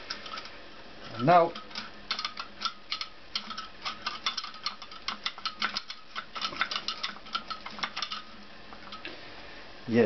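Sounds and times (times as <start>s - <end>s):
metal clutch parts clinking: 0.0s - 9.1s.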